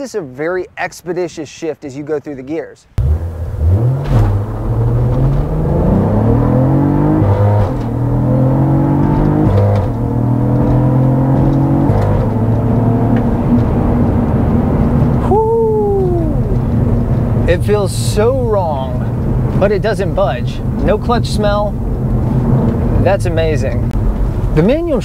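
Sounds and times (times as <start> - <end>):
car engine accelerating hard: 3.0 - 24.6.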